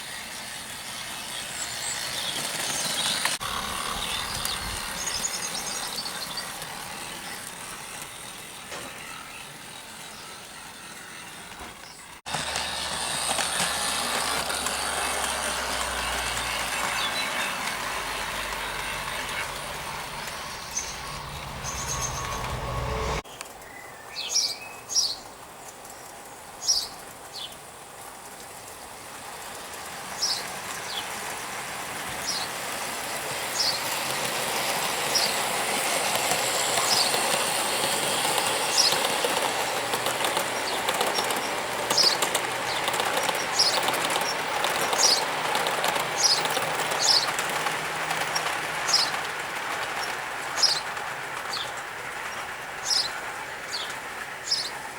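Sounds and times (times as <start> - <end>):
model train running on track: 0.0 - 54.9.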